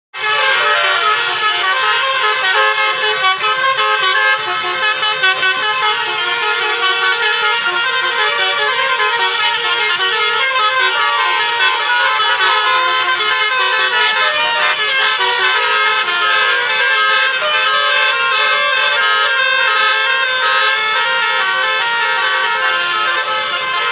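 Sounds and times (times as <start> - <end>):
musical bus air horns: 0.1 - 23.9.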